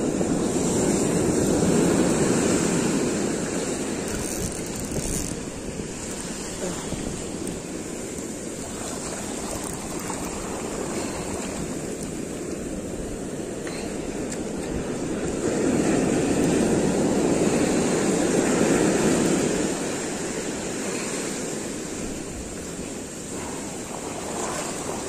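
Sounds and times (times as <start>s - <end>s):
surf washing up a beach: 0.0s - 25.0s
wind on microphone: 0.0s - 25.0s.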